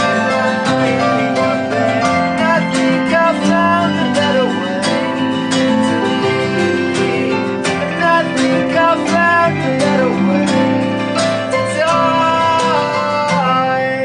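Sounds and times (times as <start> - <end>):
second guitar: 0.0 - 14.0
strummed acoustic guitar: 0.0 - 14.0
sustained keyboard chords: 0.0 - 14.0.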